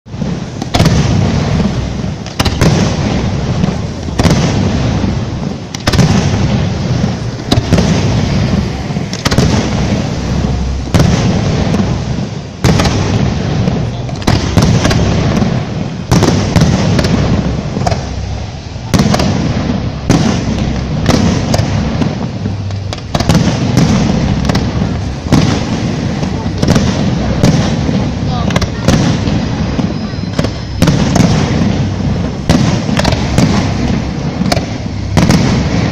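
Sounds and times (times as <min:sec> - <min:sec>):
continuous low rumble: 0:00.1 - 0:35.9
fireworks shells bursting: 0:00.1 - 0:35.9.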